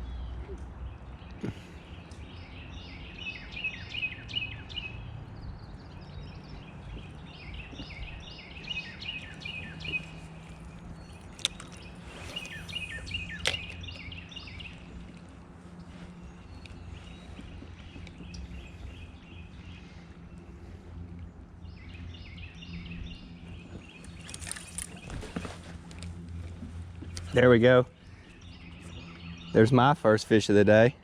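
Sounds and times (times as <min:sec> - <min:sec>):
songbird chirping: 0:00.0 - 0:31.0
low outdoor rumble: 0:04.3 - 0:31.0.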